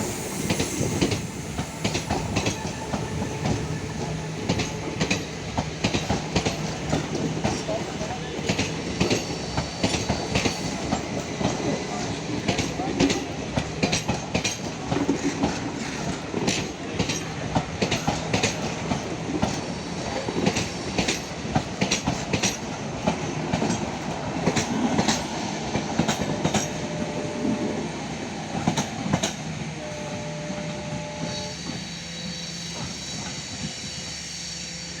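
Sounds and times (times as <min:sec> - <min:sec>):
train rumble: 0:00.0 - 0:35.0
train wheels clicking over rail joints: 0:00.3 - 0:27.6, 0:28.5 - 0:29.6.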